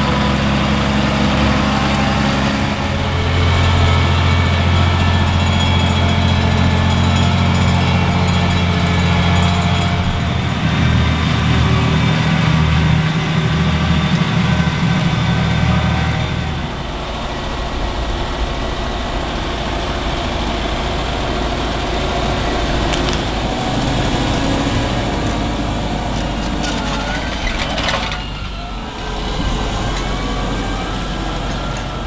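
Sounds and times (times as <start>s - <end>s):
diesel engine running loudly: 0.0s - 32.0s.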